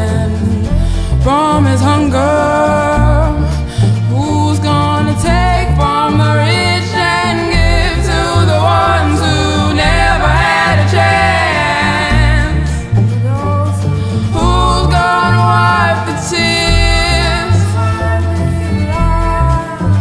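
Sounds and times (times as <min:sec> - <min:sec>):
song with sung vocal and bass: 0:00.0 - 0:20.0.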